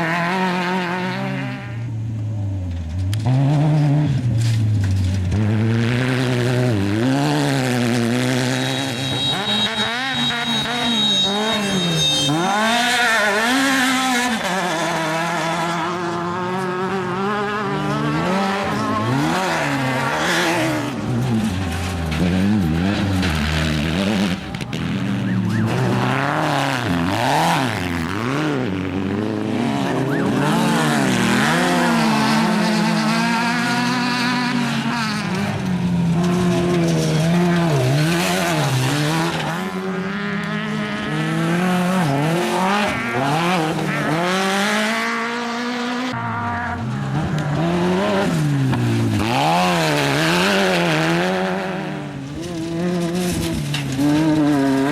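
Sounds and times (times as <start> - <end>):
race car engines revving: 0.0 - 54.9.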